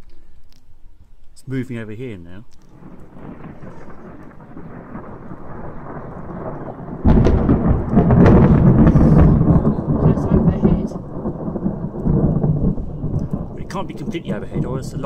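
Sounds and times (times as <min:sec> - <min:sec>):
thunder rumbling and cracking: 0:02.6 - 0:15.0.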